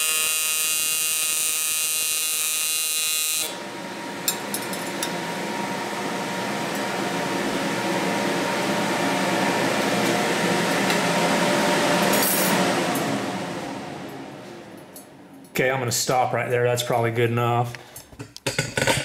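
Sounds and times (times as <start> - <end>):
welder cooling fans running: 0.0 - 19.0.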